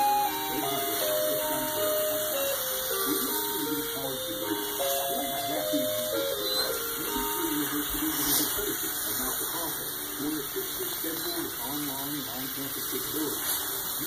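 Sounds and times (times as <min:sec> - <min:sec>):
tinny electronic toy melody: 0:00.0 - 0:11.8.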